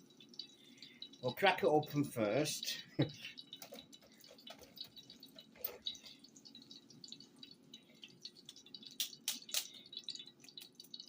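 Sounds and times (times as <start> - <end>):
hot fat crackling in a pan: 0.0 - 11.0.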